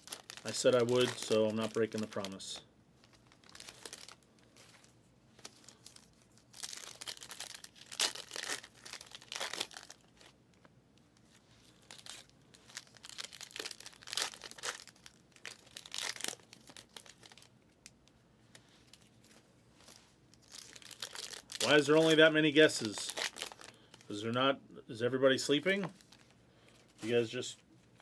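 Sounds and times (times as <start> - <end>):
plastic wrapper crinkling and tearing: 0.0 - 24.3, 25.5 - 28.0.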